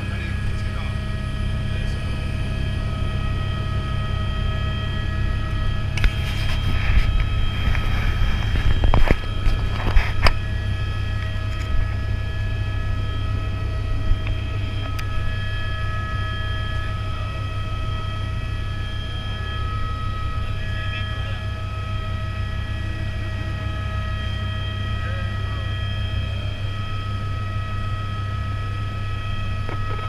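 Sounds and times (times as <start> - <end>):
helicopter rotor beat: 0.0 - 30.0
turbine and gearbox whine: 0.0 - 30.0.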